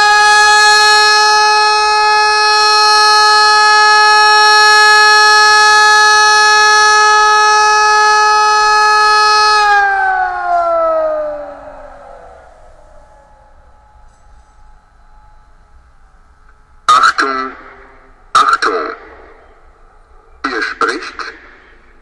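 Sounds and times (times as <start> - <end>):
siren steady tone winding down: 0.0 - 22.0.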